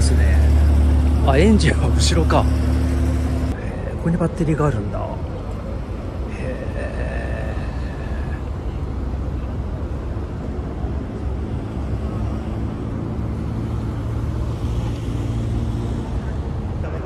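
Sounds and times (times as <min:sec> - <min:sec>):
engine hum: 0:00.0 - 0:17.0
low rumble of traffic: 0:00.0 - 0:17.0.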